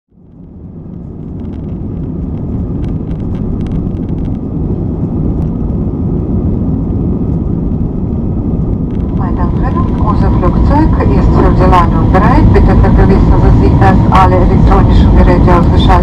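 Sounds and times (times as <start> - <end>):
jet engines roaring in cabin: 0.1 - 16.0
runway rumble: 0.2 - 16.0.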